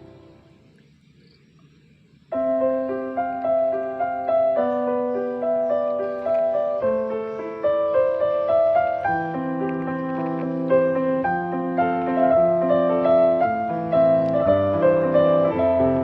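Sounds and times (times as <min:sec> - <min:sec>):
soft piano music: 0:00.0 - 0:00.6, 0:02.3 - 0:16.0.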